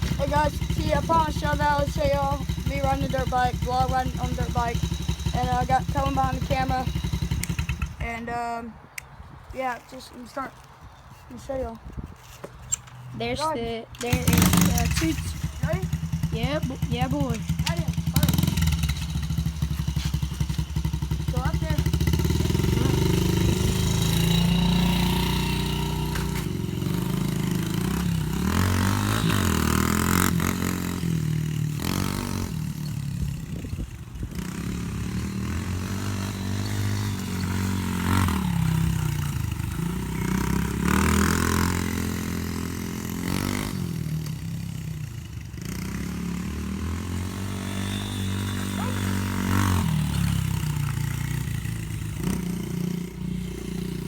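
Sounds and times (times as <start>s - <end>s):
dirt bike engine revving: 0.0s - 8.3s, 13.2s - 54.0s.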